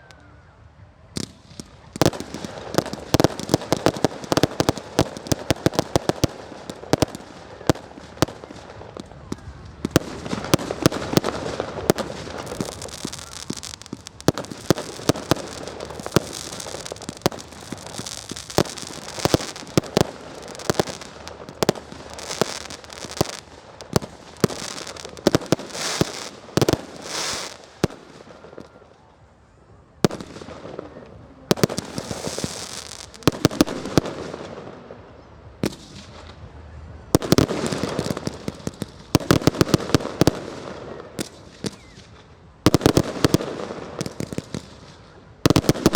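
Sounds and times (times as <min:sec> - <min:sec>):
fireworks bangs: 0:01.1 - 0:28.8, 0:30.0 - 0:45.9
fireworks crackling: 0:01.1 - 0:29.3, 0:30.0 - 0:45.9.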